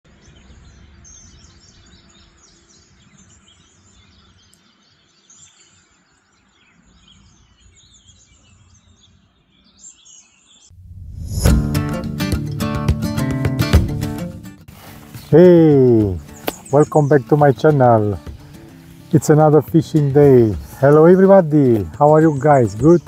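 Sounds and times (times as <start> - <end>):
birds chirping and singing: 0.1 - 10.7, 14.7 - 23.0.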